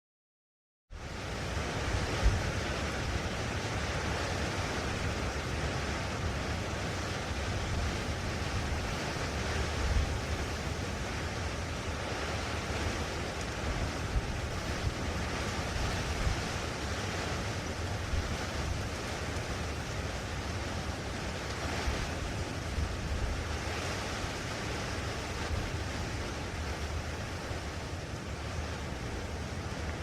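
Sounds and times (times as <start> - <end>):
wind buffeting microphone: 1.0 - 30.0.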